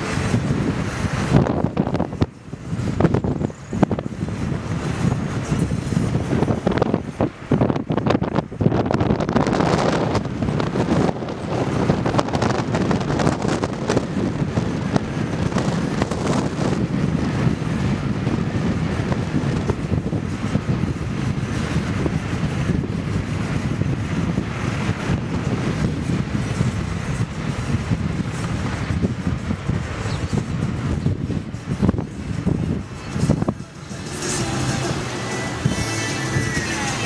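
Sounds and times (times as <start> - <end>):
car road noise: 0.0 - 37.0
wind on microphone: 0.0 - 37.0.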